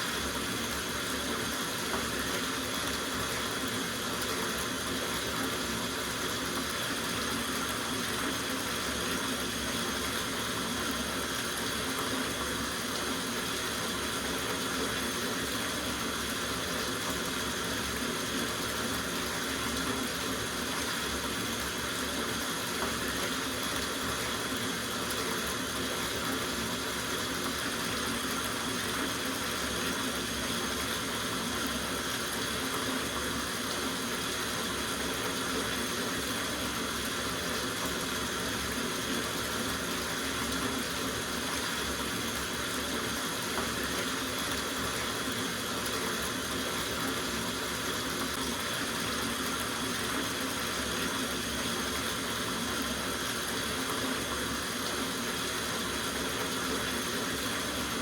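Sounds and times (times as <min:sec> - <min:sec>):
tap water running into bathtub: 0:00.0 - 0:58.0.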